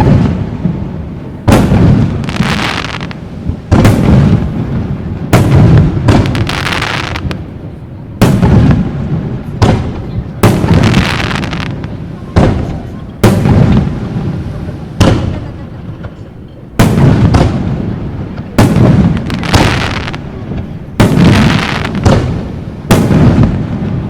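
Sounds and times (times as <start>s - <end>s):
crackling fizz of fireworks: 0.0s - 24.0s
fireworks booming: 0.0s - 24.0s.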